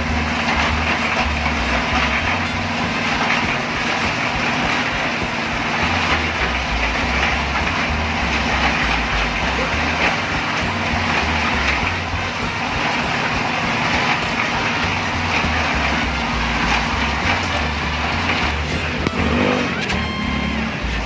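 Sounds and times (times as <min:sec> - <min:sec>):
concrete mixer running: 0:00.0 - 0:21.0.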